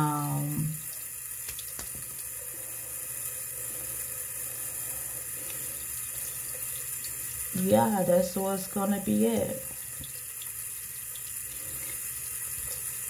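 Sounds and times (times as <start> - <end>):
sink tap running: 0.0 - 13.0.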